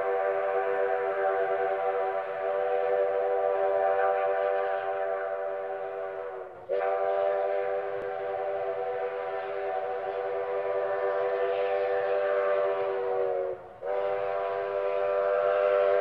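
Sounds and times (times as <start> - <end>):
steam whistle blast: 0.0 - 16.0.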